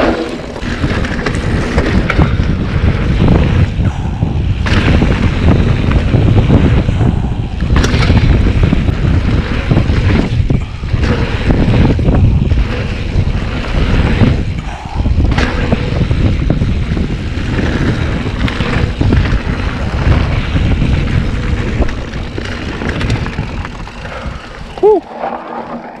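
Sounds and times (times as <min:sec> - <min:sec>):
bike rattling on dirt trail: 0:00.0 - 0:26.0
wind buffeting microphone: 0:00.0 - 0:26.0.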